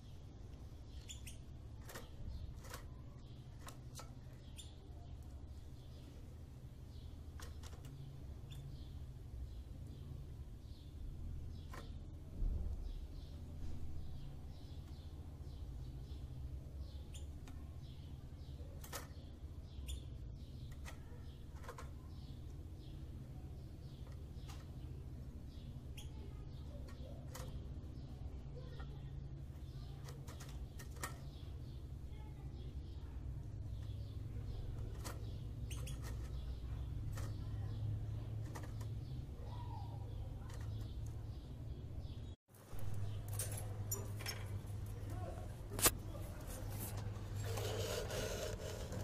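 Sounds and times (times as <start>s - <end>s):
sparrows chirping: 0.0s - 49.0s.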